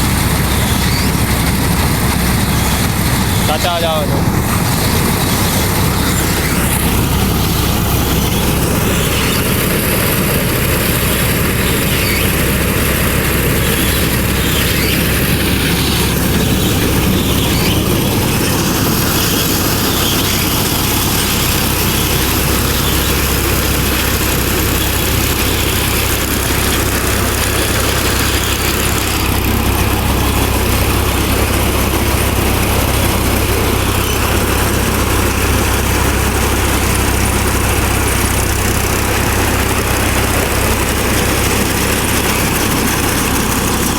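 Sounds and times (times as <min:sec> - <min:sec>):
harvester machinery whirring and rattling: 0:00.0 - 0:43.9
tractor engine drone: 0:00.0 - 0:43.9.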